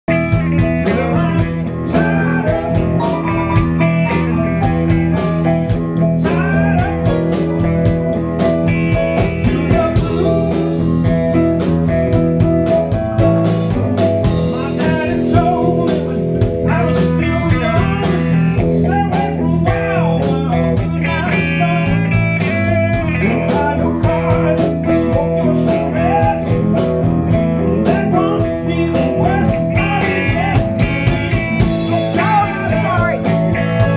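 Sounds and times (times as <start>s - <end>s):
guitar: 0.0s - 33.9s
keyboard: 0.1s - 33.9s
steady drum beat: 0.1s - 33.9s.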